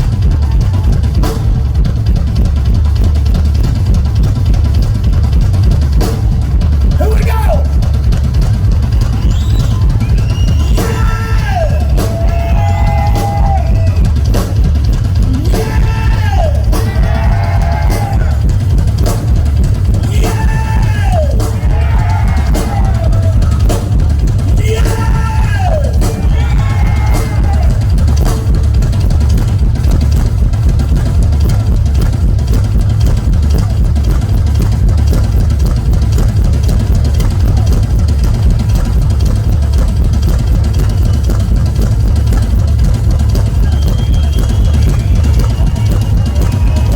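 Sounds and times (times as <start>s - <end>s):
rock drum solo: 0.0s - 46.9s.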